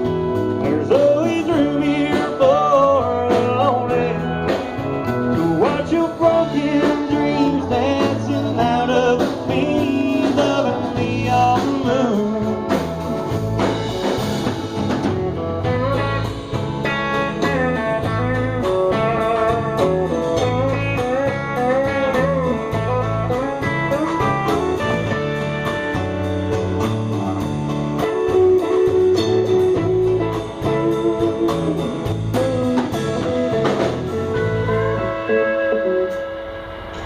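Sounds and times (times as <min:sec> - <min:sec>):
steady drum beat: 0:00.0 - 0:35.4
bass: 0:00.0 - 0:37.0
lead guitar solo: 0:02.3 - 0:08.6, 0:12.4 - 0:37.0.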